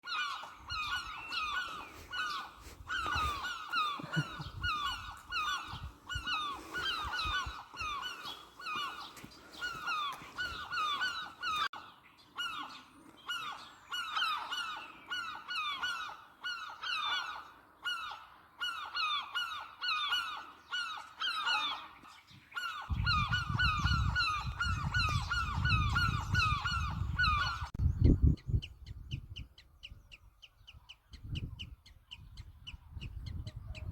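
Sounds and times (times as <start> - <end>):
birds alarm calling: 0.0 - 33.9.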